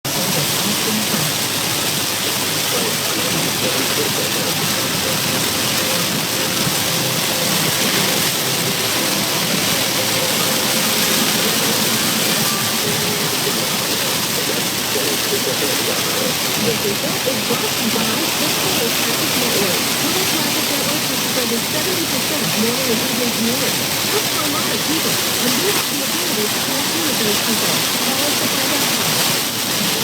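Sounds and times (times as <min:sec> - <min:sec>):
heavy rain on a car: 0:00.1 - 0:30.0.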